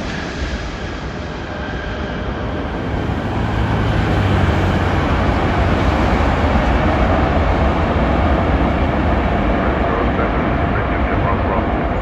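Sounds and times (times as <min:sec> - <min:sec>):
jet engines deep rumble: 0:00.0 - 0:12.0.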